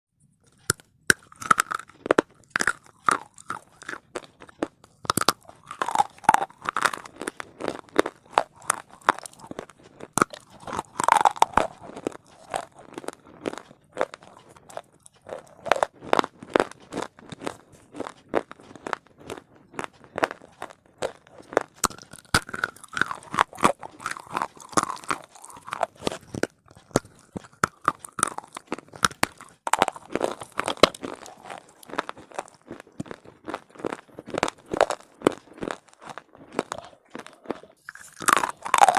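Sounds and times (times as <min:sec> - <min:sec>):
dry crunching chewing: 0:00.4 - 0:38.9.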